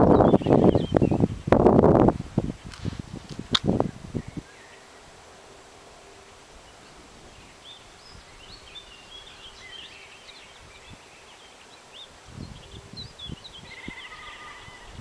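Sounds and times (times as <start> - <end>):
songbird chirping and twittering: 0.0 - 15.0
steady outdoor hiss: 0.0 - 15.0.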